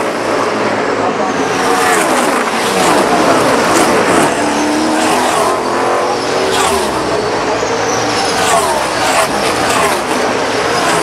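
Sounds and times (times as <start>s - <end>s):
race car engines passing at speed: 0.0s - 11.0s.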